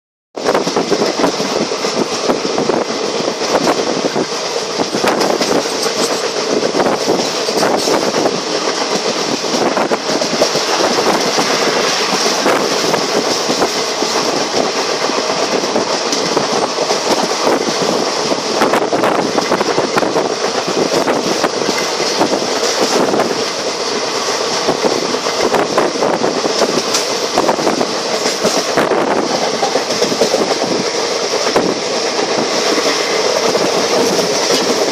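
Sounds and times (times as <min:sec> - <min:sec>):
train running noise: 0:00.4 - 0:34.9
wheels clattering over rails: 0:00.4 - 0:34.9.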